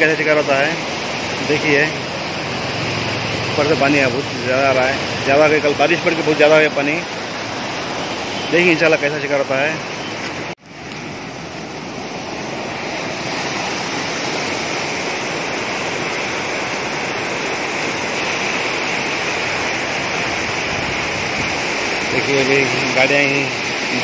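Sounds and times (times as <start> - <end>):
water rushing through weir: 0.0 - 24.0.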